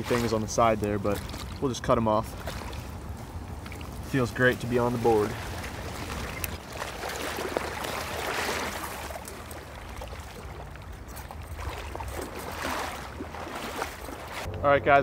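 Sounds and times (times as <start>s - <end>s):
footsteps sloshing through water: 0.0s - 14.5s
grass rustling: 0.0s - 14.5s.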